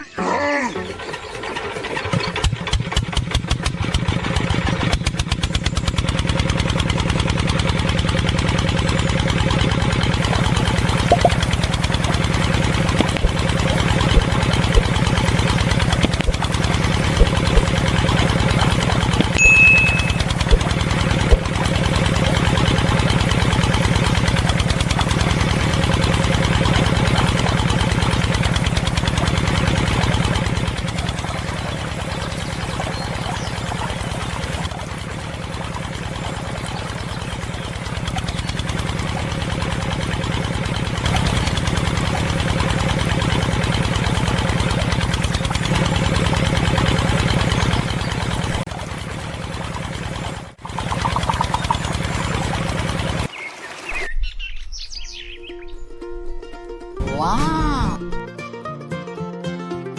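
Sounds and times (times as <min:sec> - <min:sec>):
small engine starting: 0:00.0 - 0:53.4.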